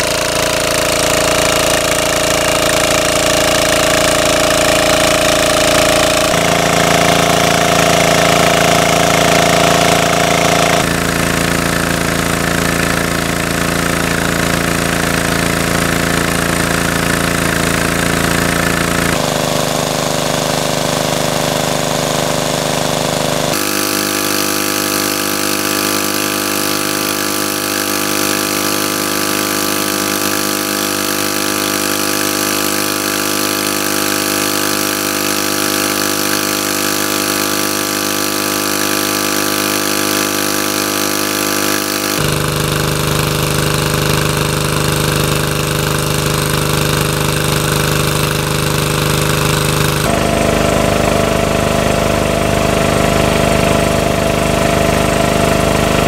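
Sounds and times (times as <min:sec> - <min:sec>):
water jet spraying: 0:00.0 - 0:51.7
small petrol engine running: 0:00.0 - 0:56.0.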